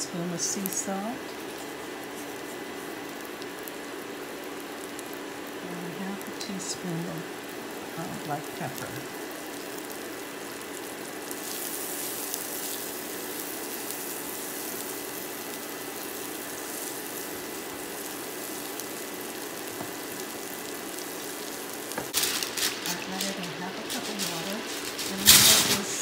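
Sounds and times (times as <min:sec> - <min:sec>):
broccoli sizzling in butter: 0:00.0 - 0:26.0.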